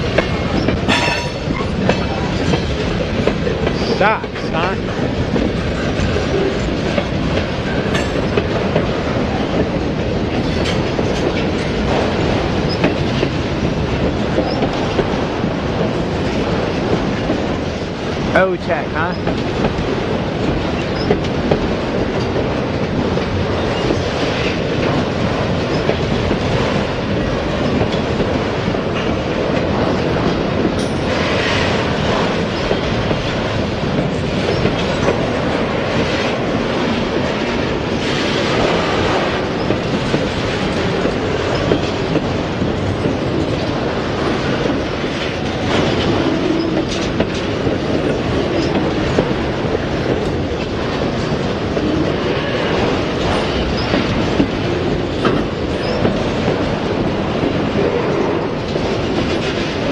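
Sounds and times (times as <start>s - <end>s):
rhythmic clickety-clack: 0.0s - 59.9s
train wheels rumbling on rail: 0.0s - 59.9s.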